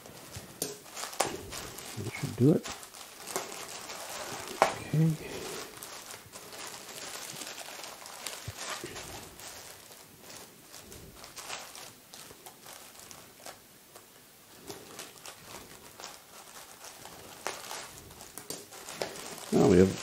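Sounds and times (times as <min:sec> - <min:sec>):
plastic bag rustling and crinkling: 0:00.0 - 0:20.0.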